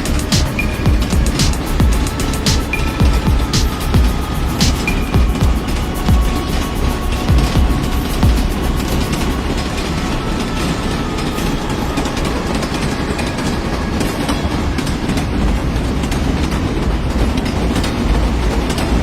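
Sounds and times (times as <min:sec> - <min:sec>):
train rumbling on track: 0:00.0 - 0:19.0
wheels clickety-clack: 0:00.0 - 0:19.0.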